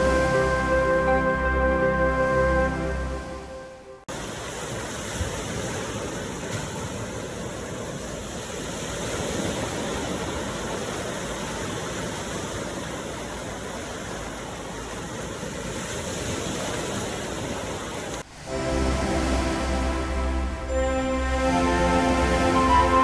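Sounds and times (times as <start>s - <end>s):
ocean surf: 0.0s - 23.0s.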